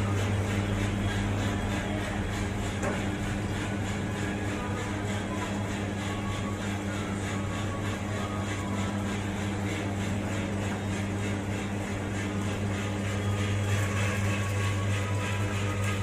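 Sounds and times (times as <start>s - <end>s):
blower and burner rushing: 0.0s - 16.0s
electric motor hum: 0.0s - 16.0s.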